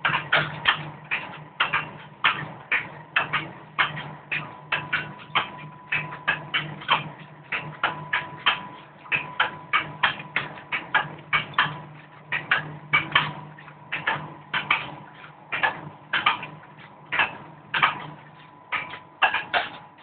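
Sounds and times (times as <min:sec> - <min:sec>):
packing machine hum: 0:00.0 - 0:20.0
sharp mechanical clacks: 0:00.0 - 0:20.0.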